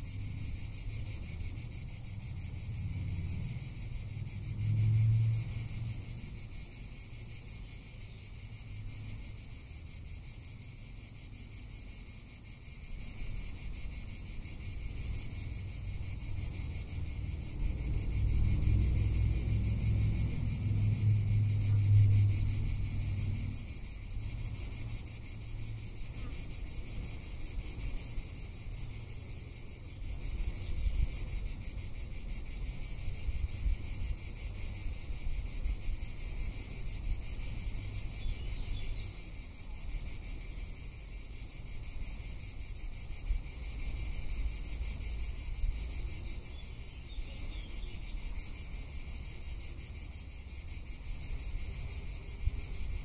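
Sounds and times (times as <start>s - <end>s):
cicadas singing: 0.0s - 53.0s.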